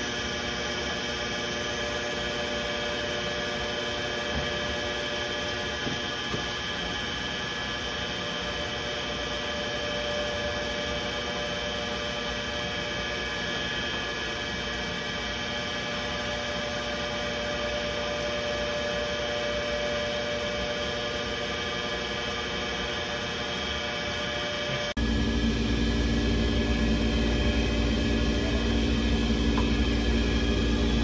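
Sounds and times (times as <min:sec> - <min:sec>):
pump motor humming and whining: 0:00.0 - 0:31.0.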